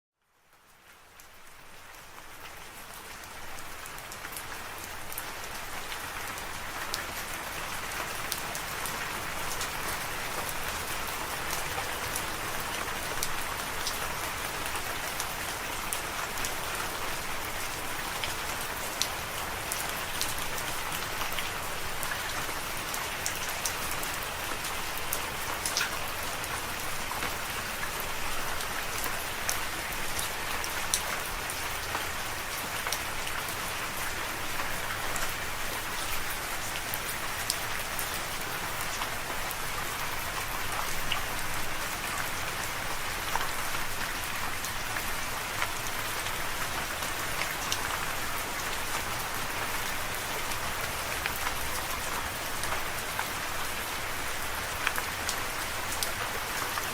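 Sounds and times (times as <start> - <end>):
steady rain falling: 0.2 - 56.9.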